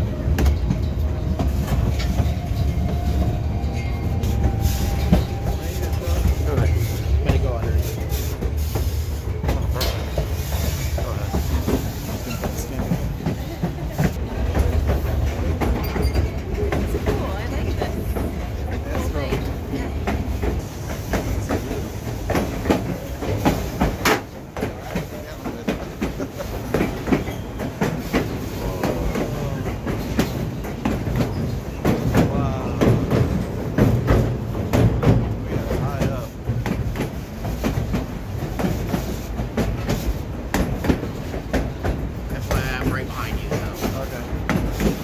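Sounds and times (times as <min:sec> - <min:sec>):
railcar rumbling along track: 0:00.0 - 0:45.0.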